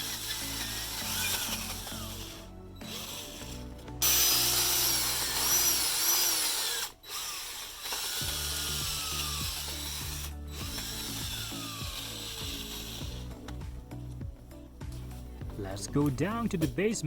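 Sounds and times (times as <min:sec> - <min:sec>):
power drill boring through wood: 0:00.0 - 0:16.8
background music: 0:00.0 - 0:17.0.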